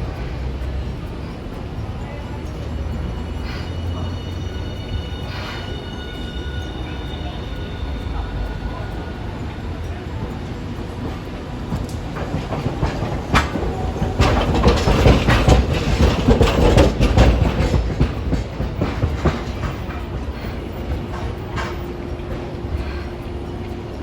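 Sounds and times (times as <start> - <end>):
streetcar wheels clattering over rails: 0.0 - 24.0.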